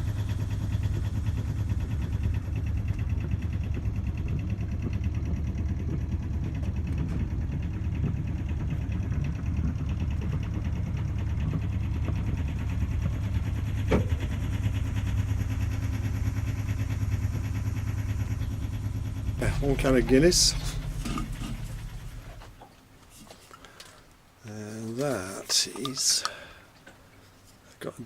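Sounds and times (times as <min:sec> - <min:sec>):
boat engine idling: 0:00.0 - 0:23.8.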